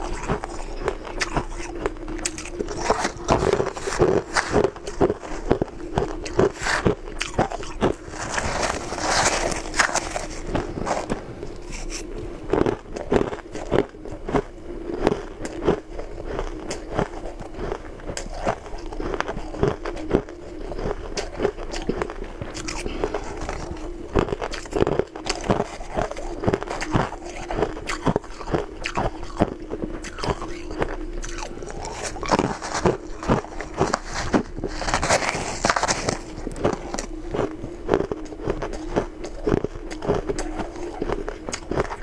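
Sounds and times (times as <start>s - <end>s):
chewing crunchy ice: 0.0s - 42.0s.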